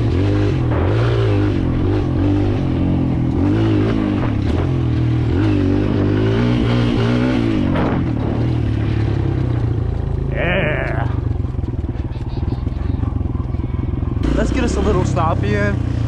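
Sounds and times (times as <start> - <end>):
dirt bike engine revving: 0.0 - 12.0, 14.2 - 16.0.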